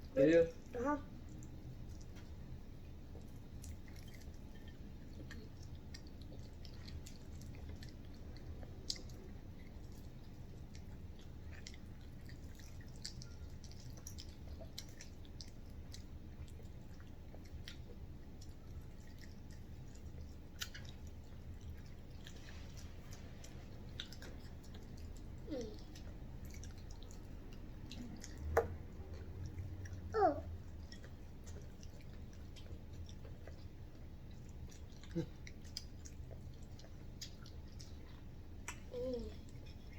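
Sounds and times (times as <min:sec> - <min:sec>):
low steady hum: 0:00.0 - 0:39.9
people chewing food: 0:00.0 - 0:39.9.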